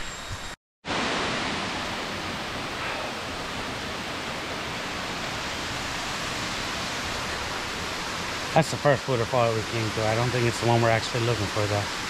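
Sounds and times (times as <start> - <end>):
waterfall cascading over rocks: 0.9 - 12.0.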